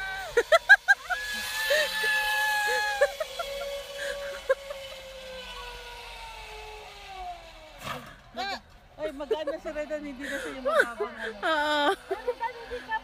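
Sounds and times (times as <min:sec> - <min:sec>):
zip-line pulley whining: 0:00.0 - 0:13.0.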